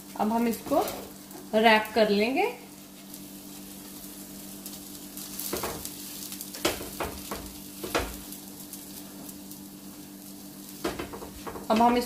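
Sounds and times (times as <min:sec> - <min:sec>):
omelette sizzling in a pan: 0:00.0 - 0:12.0.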